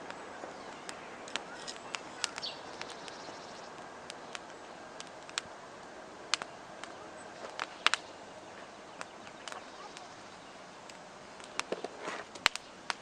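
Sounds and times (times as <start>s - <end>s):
campfire crackling and popping: 0.0s - 13.0s
faint steady hiss: 0.0s - 13.0s.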